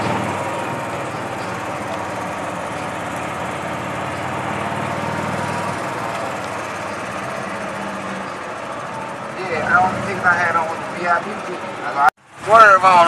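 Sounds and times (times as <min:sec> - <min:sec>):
vehicle engine low hum: 0:00.0 - 0:12.8.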